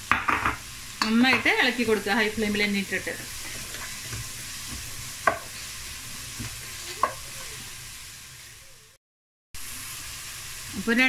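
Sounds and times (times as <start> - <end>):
vegetables sizzling in hot oil: 0.0 - 9.0, 9.6 - 11.0.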